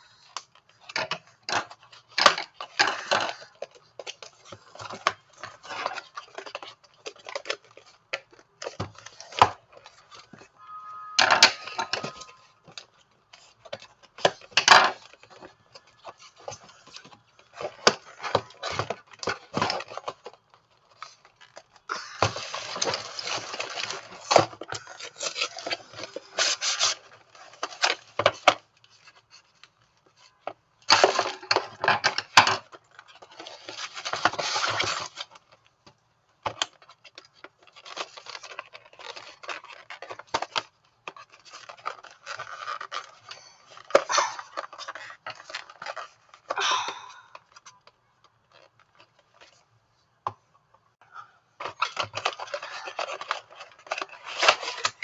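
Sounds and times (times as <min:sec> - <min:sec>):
packaging rustling and scraping: 0:00.0 - 0:50.0, 0:51.5 - 0:55.0.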